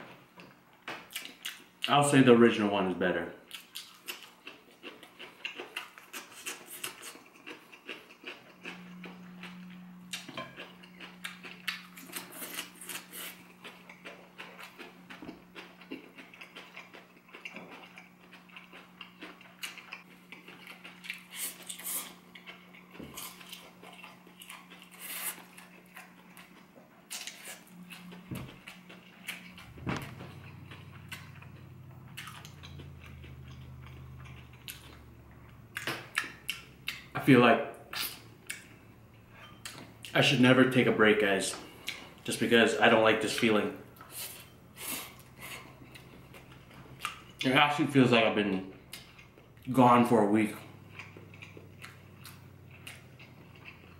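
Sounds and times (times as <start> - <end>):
steady low hum: 0.0 - 53.9
person chewing noodles: 1.1 - 1.8, 3.5 - 37.2, 37.9 - 40.2, 41.6 - 42.3, 43.3 - 47.5, 48.7 - 49.7, 50.5 - 53.9.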